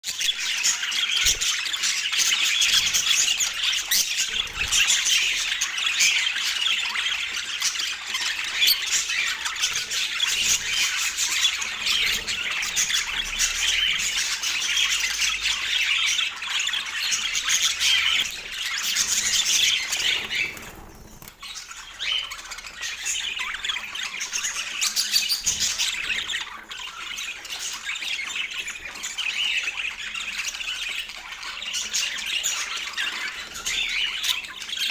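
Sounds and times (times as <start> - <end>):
budgerigars chattering: 0.1 - 34.9.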